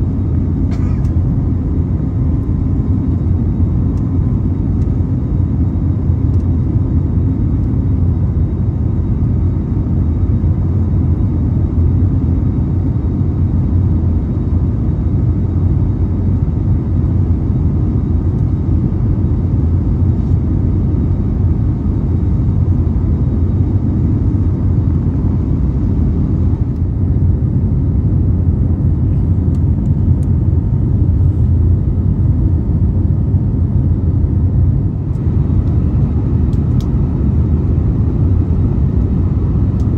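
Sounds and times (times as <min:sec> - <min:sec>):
jet cabin low rumble: 0:00.0 - 0:39.9.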